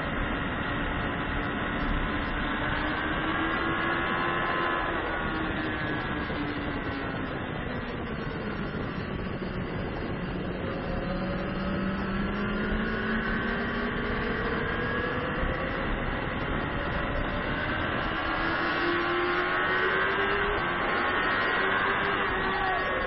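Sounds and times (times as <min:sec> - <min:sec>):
motorcycle engine revving: 0:00.0 - 0:23.0
wind noise: 0:00.0 - 0:23.0.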